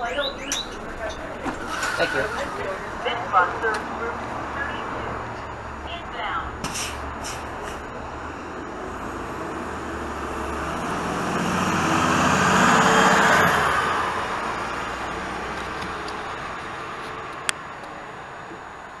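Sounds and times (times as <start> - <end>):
bus driving past: 0.0 - 19.0.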